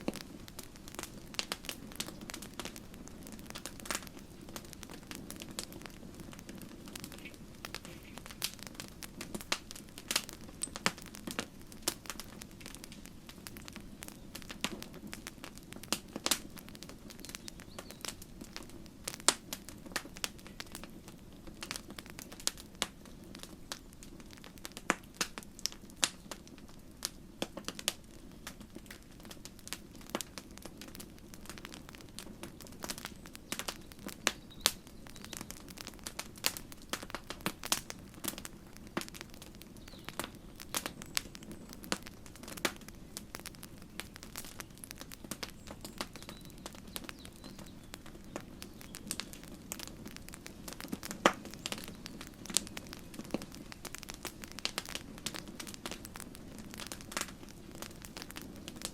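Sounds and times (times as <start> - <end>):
campfire crackling: 0.0 - 58.9
low rush of burning: 0.0 - 58.9.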